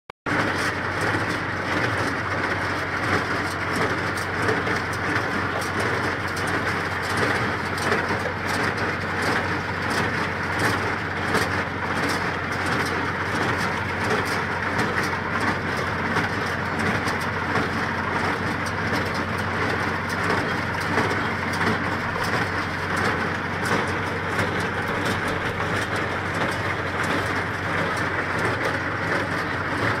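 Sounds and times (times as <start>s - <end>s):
hay baler running: 0.3s - 30.0s
tractor engine: 0.3s - 30.0s.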